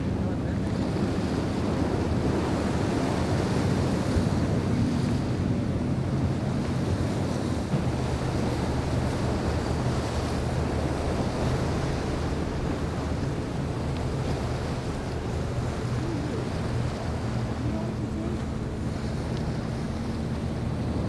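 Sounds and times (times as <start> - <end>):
powerboat engines droning: 0.0 - 21.0
water washing against jetty: 0.0 - 21.0
wind buffeting microphone: 0.0 - 21.0.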